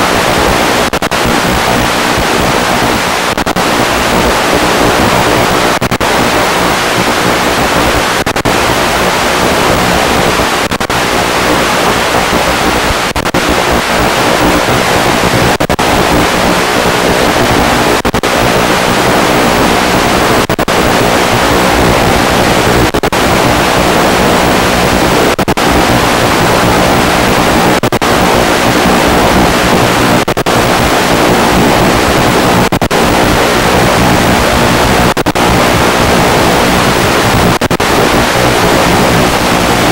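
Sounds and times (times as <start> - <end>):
loud steady rushing noise: 0.0 - 39.9.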